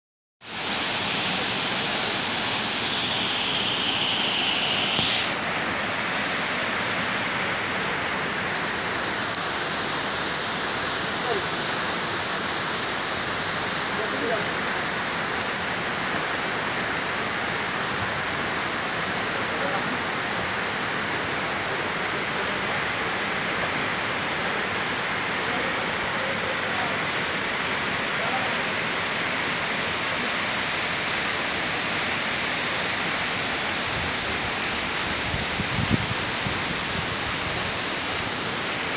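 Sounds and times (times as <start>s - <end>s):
high hiss: 0.5s - 38.9s
waterfall rushing: 0.5s - 38.9s.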